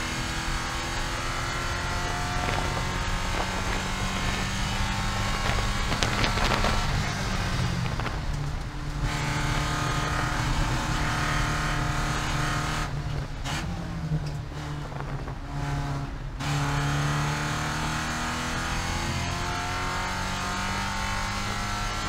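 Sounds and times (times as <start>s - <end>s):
race car engine: 0.0s - 22.0s.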